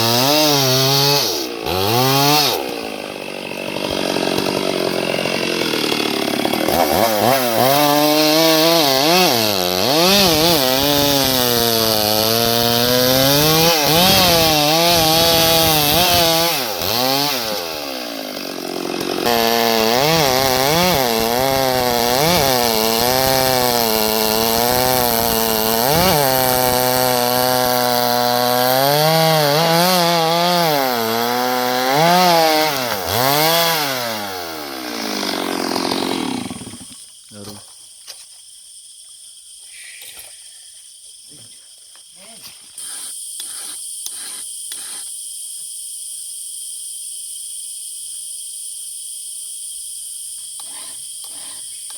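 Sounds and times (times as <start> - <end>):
chainsaw cutting wood: 0.0 - 37.2, 42.6 - 45.7, 50.4 - 51.9.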